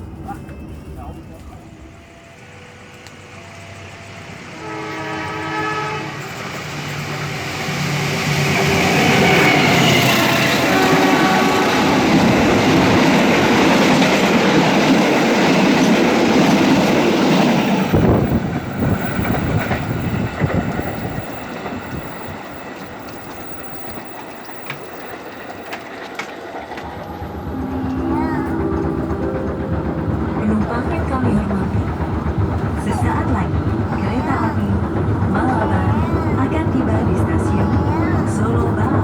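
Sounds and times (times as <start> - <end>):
train rushing and rattling on rails: 0.0 - 39.0
train wheel clatter: 0.0 - 39.0.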